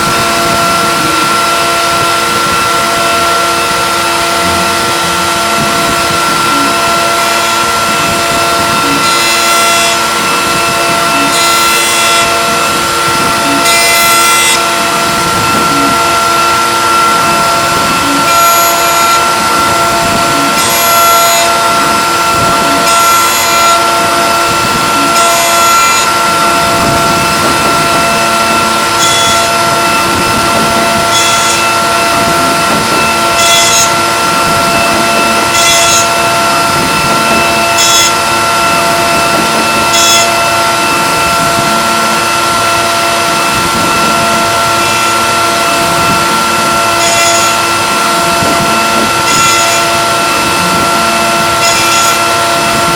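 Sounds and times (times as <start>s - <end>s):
cnc spindle whine: 0.0s - 52.9s
hissing machine cut: 0.0s - 52.9s.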